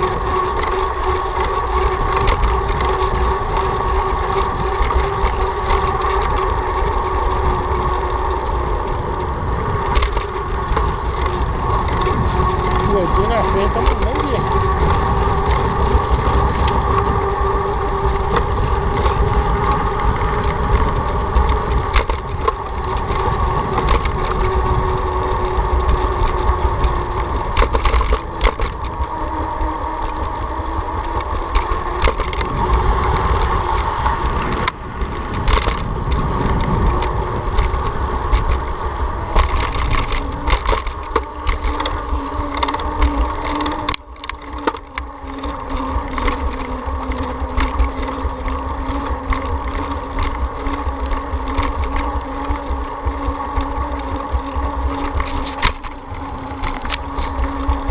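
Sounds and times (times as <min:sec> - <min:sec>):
engine hum: 0:00.0 - 0:57.9
wind rumble on microphone: 0:00.0 - 0:57.9.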